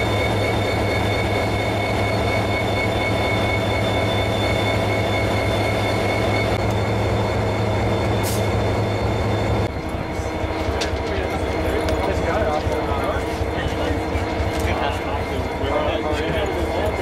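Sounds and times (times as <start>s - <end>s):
high-pitched whine: 0.0s - 17.0s
locomotive engine idling hum: 0.0s - 17.0s.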